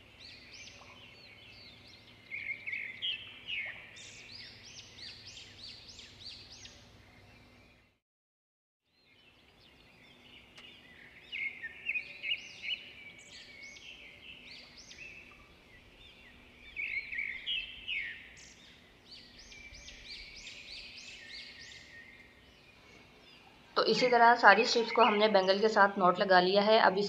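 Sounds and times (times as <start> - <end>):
small birds chirping: 0.0 - 8.0, 8.9 - 27.0.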